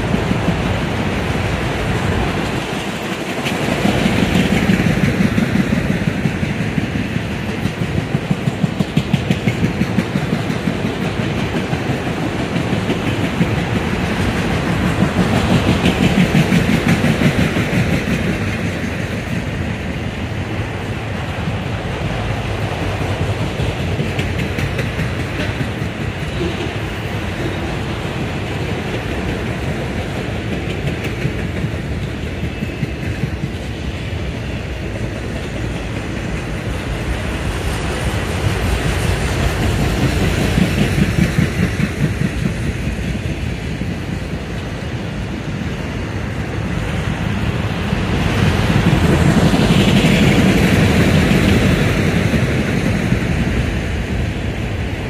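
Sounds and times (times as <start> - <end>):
steel wheels clicking over rails: 0.0 - 20.5, 21.5 - 55.0
freight train rumbling: 0.0 - 55.0.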